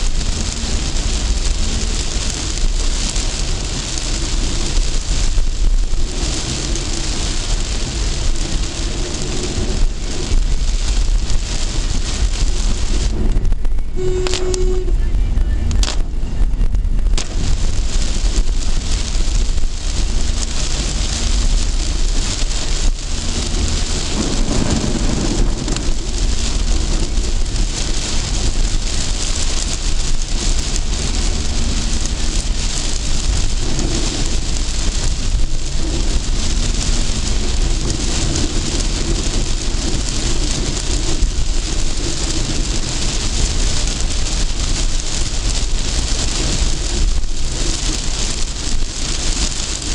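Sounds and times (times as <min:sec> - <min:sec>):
car engine and road rumble: 0:00.0 - 0:49.9
heavy rain on a car: 0:00.0 - 0:49.9.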